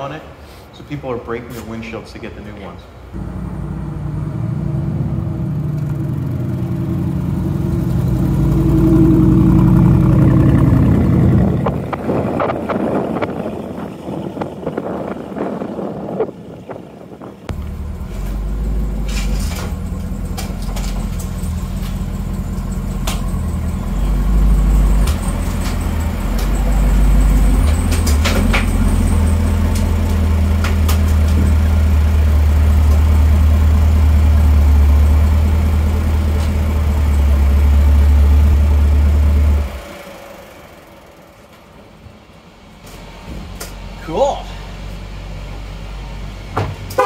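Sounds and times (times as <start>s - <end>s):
car engine droning: 3.0s - 47.0s.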